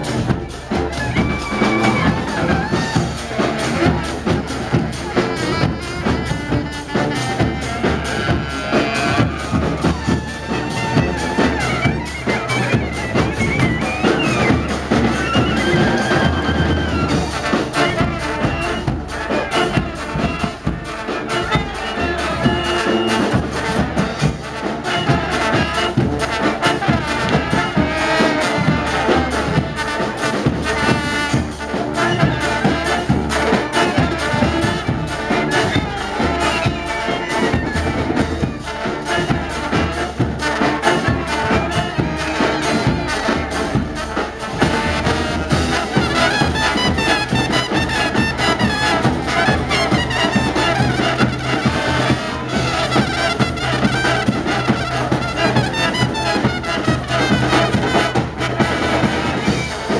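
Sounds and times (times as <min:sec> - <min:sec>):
brass marching band playing: 0:00.0 - 0:59.9.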